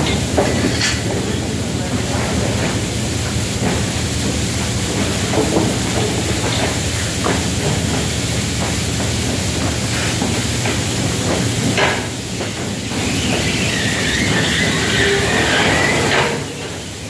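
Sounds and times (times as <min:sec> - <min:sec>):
water spray hissing: 0:02.3 - 0:17.0.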